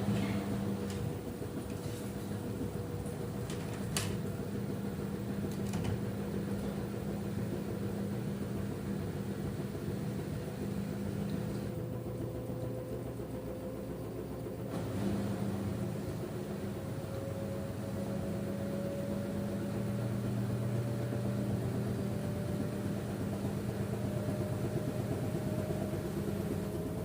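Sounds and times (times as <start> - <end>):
washing machine spinning: 0.0 - 27.0.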